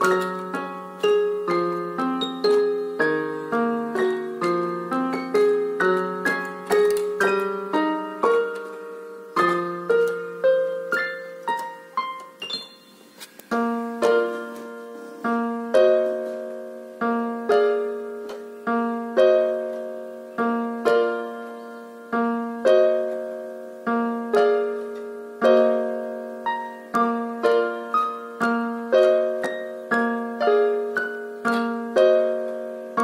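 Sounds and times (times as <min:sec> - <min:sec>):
piano chords: 0:00.0 - 0:33.0.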